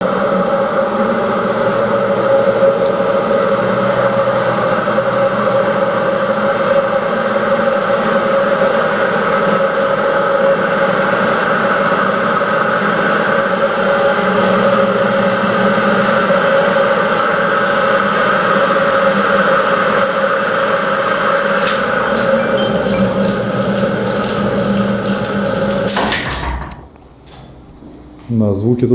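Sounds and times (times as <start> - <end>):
elevator machinery humming: 0.0 - 28.5.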